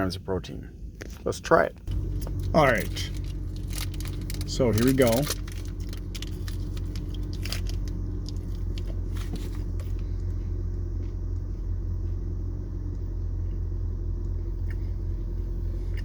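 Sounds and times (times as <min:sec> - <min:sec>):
steady low rumble: 0:00.0 - 0:16.0
person chewing granola bar: 0:01.9 - 0:16.0.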